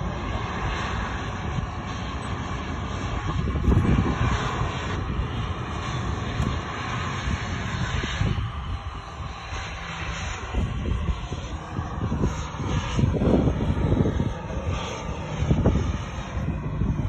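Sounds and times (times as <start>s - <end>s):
jet airliner engines on runway: 0.0s - 17.0s.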